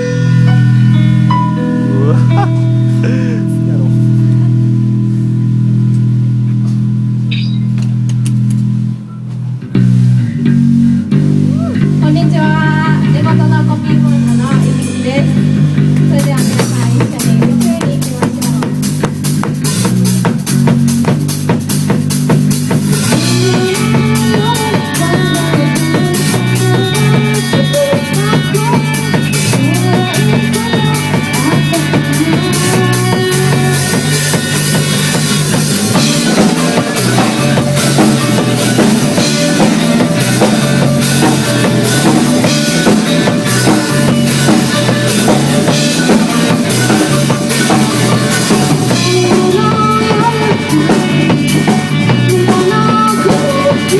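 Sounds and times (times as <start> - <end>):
rock music: 0.0 - 53.9.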